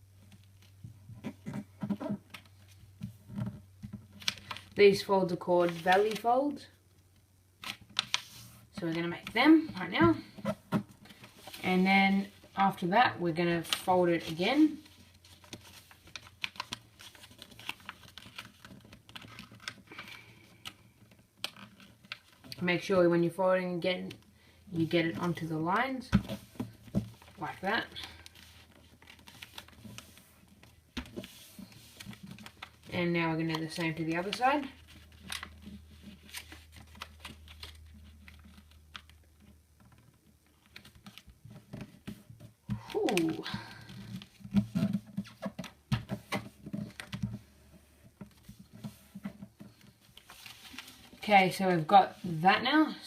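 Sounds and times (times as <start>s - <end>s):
paper being folded and creased: 0.3s - 4.8s, 5.6s - 6.3s, 7.6s - 12.8s, 13.5s - 22.6s, 26.2s - 52.4s.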